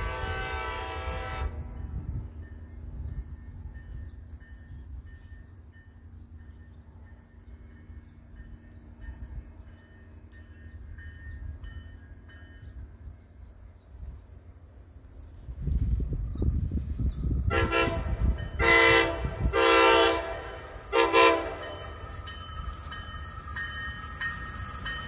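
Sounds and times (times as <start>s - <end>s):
distant train rumbling: 0.0s - 25.0s.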